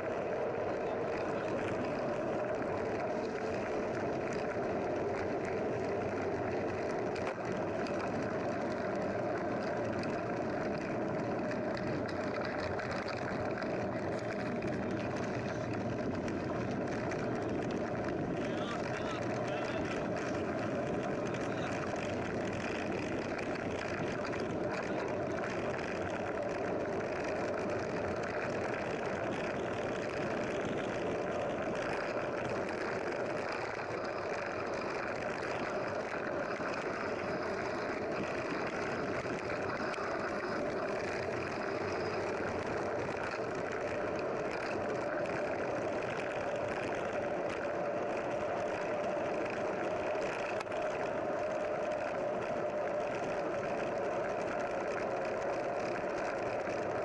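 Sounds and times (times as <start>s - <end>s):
constant hum: 0.0s - 57.0s
vehicle engine drone: 0.0s - 57.0s.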